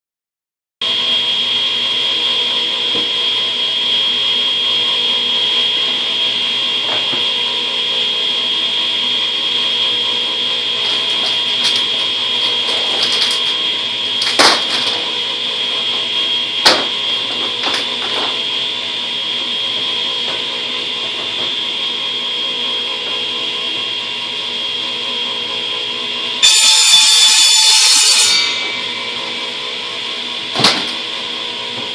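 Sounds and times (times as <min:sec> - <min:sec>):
electric motor drone with whine: 0:00.8 - 0:31.9.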